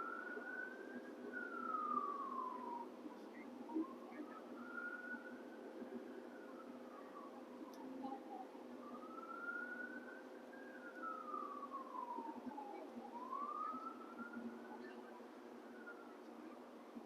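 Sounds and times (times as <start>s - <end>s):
wailing siren: 0.0s - 17.0s.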